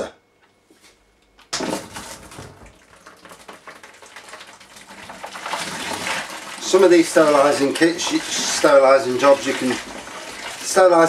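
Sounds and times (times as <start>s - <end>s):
hot water pouring into bucket: 1.6s - 11.0s.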